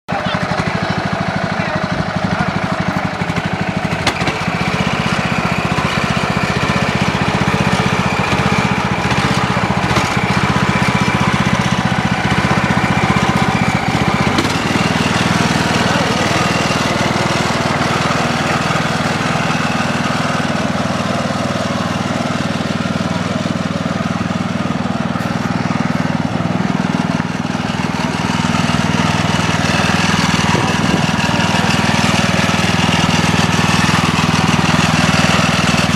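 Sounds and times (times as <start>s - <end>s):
lawnmower engine running: 0.1s - 35.9s.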